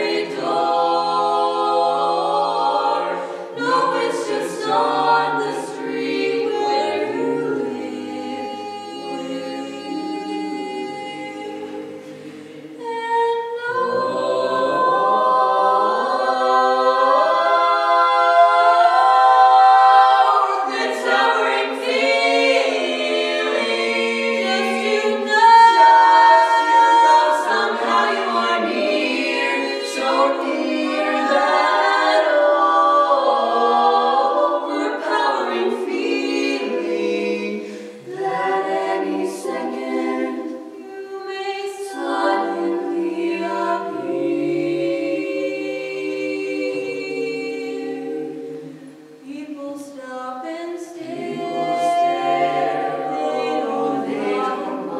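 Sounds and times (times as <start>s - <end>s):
a cappella vocal quartet singing: 0.0s - 54.9s.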